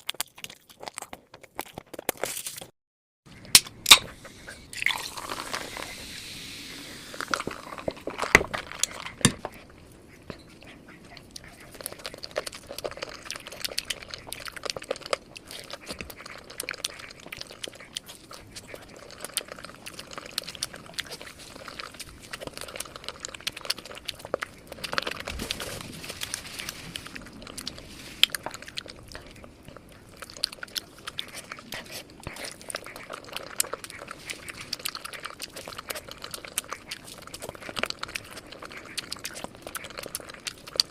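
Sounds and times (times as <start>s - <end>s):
crunchy chewing: 0.0s - 2.7s, 3.4s - 40.9s
wet mouth sounds: 0.0s - 2.7s, 3.8s - 40.9s.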